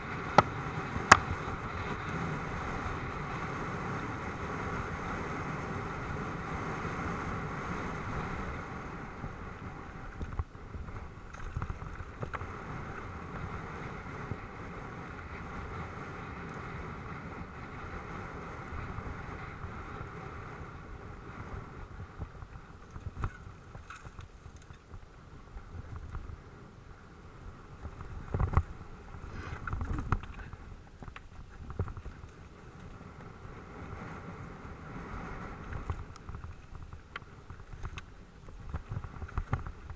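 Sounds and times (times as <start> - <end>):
wind and tyre noise: 0.0 - 39.9.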